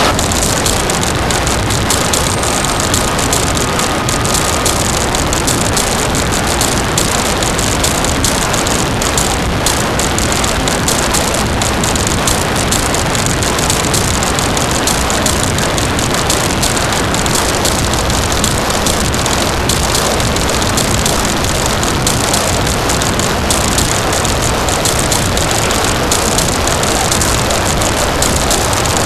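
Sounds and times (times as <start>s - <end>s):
harsh distorted static noise music: 0.0s - 29.0s.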